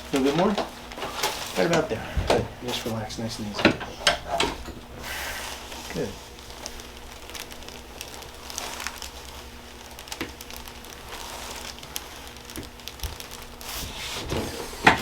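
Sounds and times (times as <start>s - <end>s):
clothing rustling on padded table: 0.0s - 15.0s
thin steady hum: 0.0s - 15.0s.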